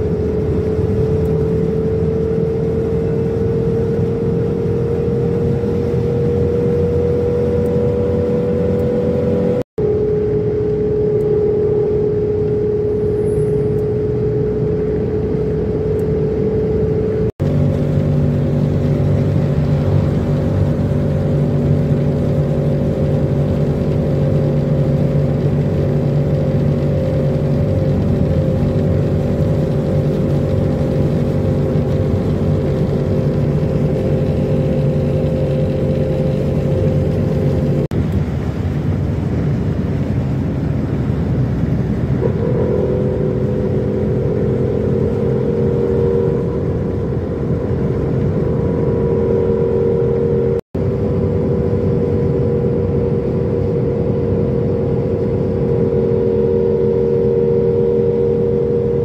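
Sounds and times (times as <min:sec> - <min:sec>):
higher steady hum: 0:00.0 - 0:59.0
vehicle engine hum from inside: 0:00.0 - 0:59.0.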